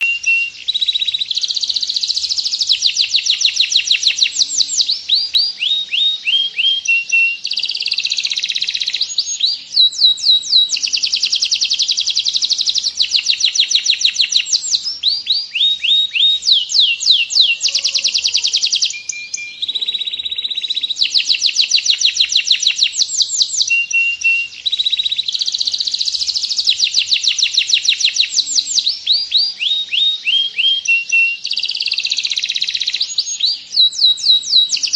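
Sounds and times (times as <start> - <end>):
canary singing fast trills: 0.0 - 34.9.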